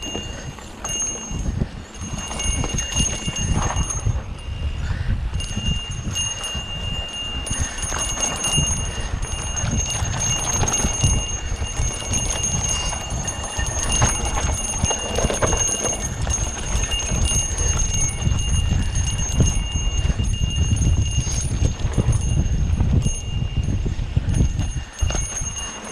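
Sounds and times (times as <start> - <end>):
bike rattling over bumps: 0.0 - 25.9
bike rumbling over dirt: 0.0 - 25.9.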